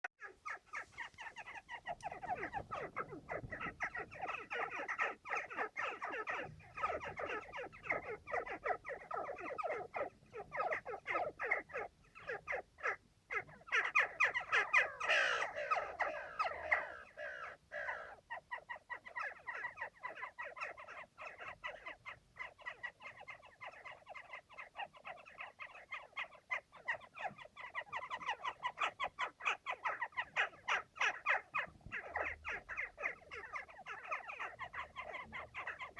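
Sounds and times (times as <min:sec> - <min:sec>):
jackdaws calling: 0:00.2 - 0:35.9.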